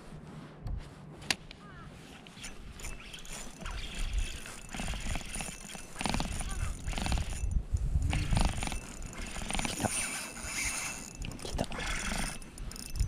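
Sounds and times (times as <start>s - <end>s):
rod handling rustling: 1.3s - 13.0s.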